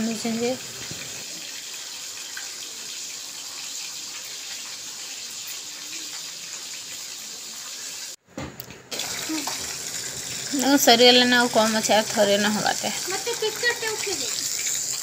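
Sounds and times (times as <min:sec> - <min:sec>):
fish frying in hot oil: 0:00.0 - 0:08.2, 0:08.9 - 0:15.0.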